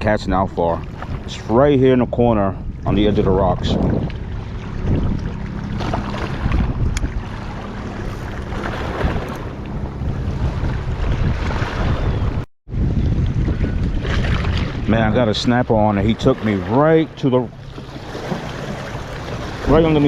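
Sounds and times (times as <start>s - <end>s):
wind buffeting microphone: 0.0s - 20.0s
water lapping at rocks: 0.6s - 12.0s, 13.2s - 20.0s.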